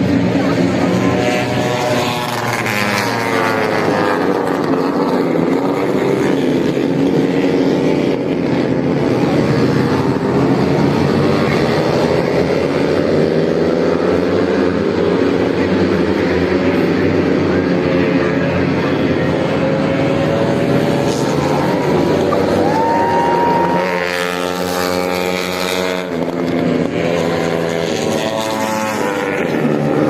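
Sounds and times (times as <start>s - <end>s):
racing motorcycles passing: 0.0s - 30.0s.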